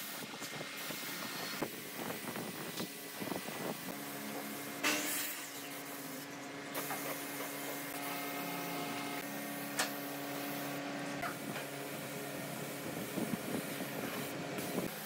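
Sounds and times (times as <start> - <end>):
air spray gun hissing: 0.0 - 10.8, 12.0 - 15.0.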